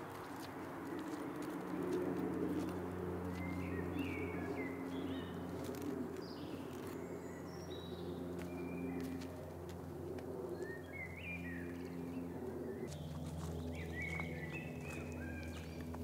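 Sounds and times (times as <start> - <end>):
low steady hum: 0.0 - 16.0
wild birds chirping and trilling: 0.0 - 16.0.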